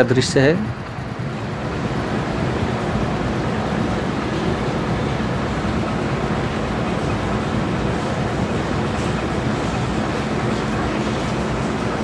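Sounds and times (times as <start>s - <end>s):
street noise rumble and hiss: 0.0s - 12.0s.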